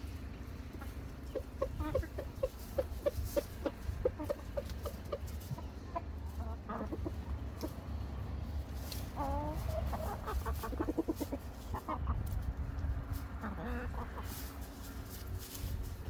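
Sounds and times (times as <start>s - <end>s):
chickens clucking: 0.0s - 16.0s
steady low rumble: 0.0s - 16.0s.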